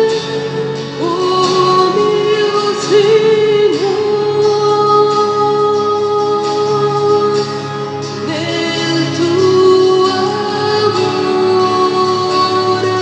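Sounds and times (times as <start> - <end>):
hymn singing: 0.0 - 13.0.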